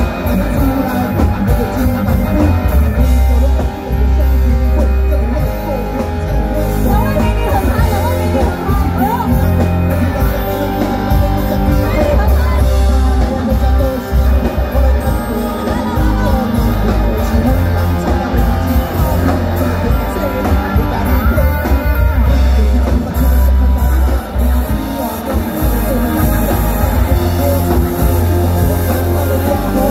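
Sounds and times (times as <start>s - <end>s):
heavy bass line: 0.0s - 29.9s
person singing: 0.0s - 29.9s
rock band playing: 0.0s - 29.9s.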